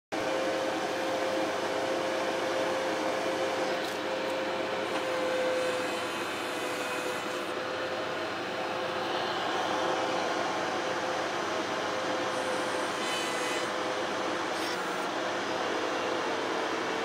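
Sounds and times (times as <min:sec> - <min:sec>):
loader engine running with whine: 0:00.2 - 0:17.0.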